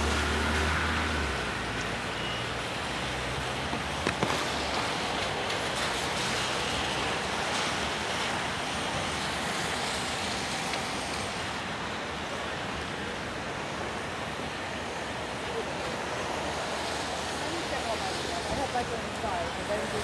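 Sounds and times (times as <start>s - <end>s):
traffic hiss on wet streets: 0.0s - 20.0s.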